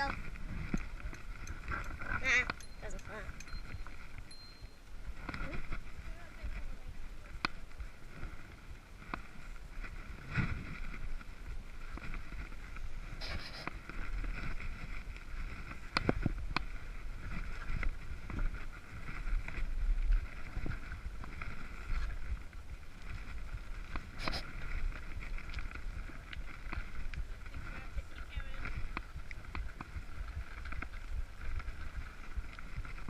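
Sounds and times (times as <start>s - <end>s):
bicycle rolling over ground: 0.0s - 33.0s.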